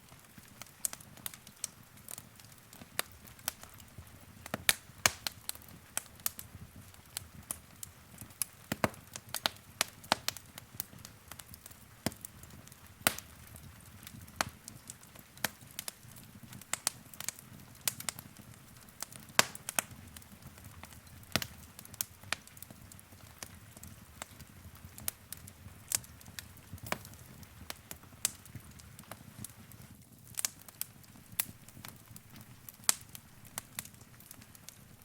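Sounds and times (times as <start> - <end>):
low rumble of burning: 0.0 - 35.0
wood fire crackling: 0.0 - 35.0.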